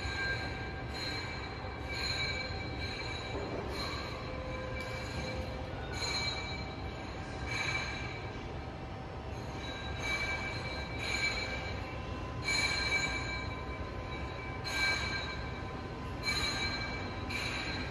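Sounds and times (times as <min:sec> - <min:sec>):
low machine drone: 0:00.0 - 0:17.9.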